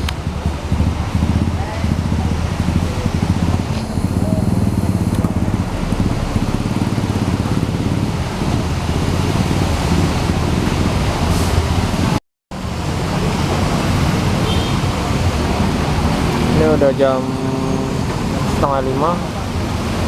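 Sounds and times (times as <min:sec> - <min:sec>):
diesel bus engine idling: 0:00.0 - 0:20.0
rain hissing: 0:00.2 - 0:18.6.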